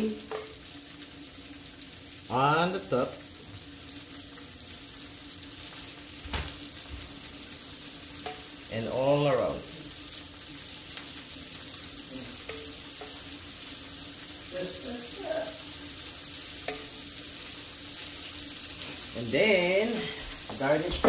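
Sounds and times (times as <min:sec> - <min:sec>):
sauce sizzling in a pan: 0:00.0 - 0:21.0.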